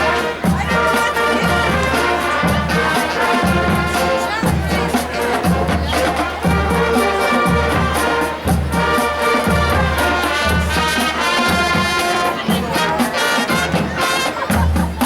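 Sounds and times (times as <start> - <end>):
brass sustained chords: 0.0 - 14.5
marching band playing: 0.0 - 15.0.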